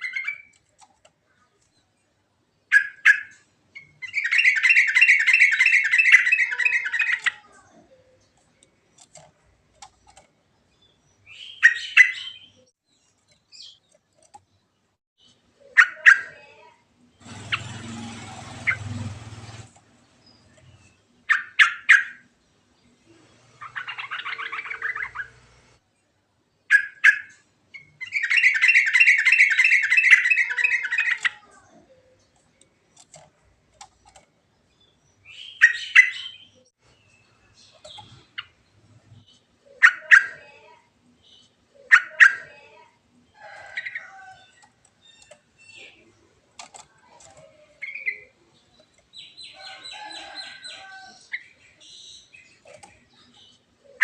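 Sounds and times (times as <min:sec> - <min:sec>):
bird singing: 0:00.0 - 0:16.4, 0:19.9 - 0:25.7, 0:26.6 - 0:33.2, 0:33.8 - 0:46.2, 0:46.8 - 0:54.0.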